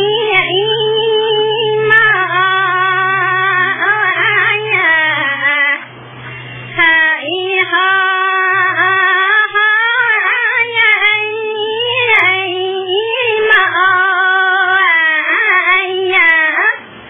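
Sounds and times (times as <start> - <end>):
high voice singing: 0.0 - 17.0.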